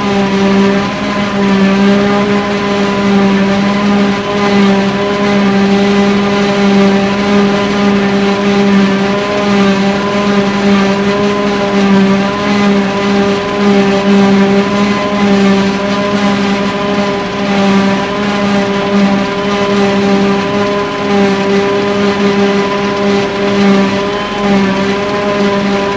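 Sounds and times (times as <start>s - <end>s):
forage harvester mechanical drone: 0.0s - 25.9s.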